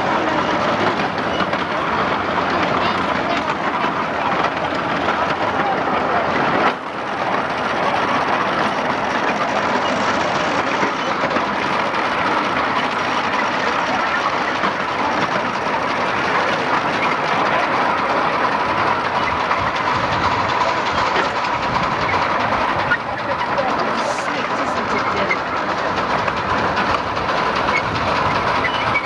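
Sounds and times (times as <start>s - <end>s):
train wheels rattling on rails: 0.0s - 29.0s.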